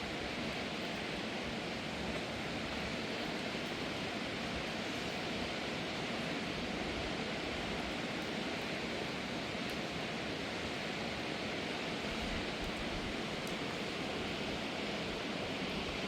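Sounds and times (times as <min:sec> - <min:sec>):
rainstorm: 0:00.0 - 0:16.0.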